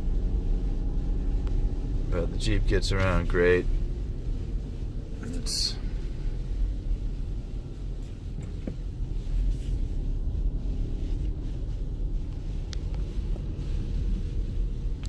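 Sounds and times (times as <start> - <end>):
car driving on snow rumble: 0.0 - 15.0.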